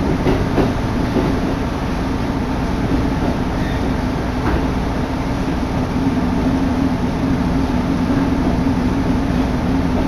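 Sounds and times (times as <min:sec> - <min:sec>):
diesel engine hum: 0:00.0 - 0:10.0
wheels rumbling on rails: 0:00.0 - 0:10.0.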